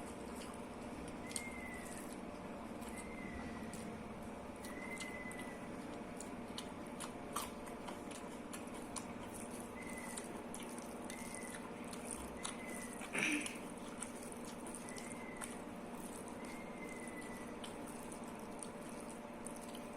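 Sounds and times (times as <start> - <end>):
chewing food: 0.0 - 19.9.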